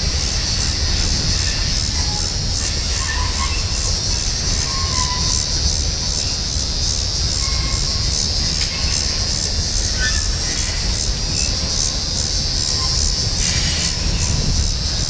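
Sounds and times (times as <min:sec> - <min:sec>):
freight train rumble: 0:00.0 - 0:15.0
high hiss: 0:00.0 - 0:15.0
wheel squeals: 0:00.0 - 0:15.0.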